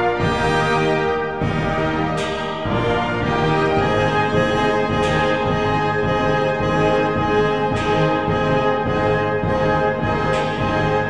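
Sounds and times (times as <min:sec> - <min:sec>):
orchestral music led by brass: 0:00.0 - 0:11.0.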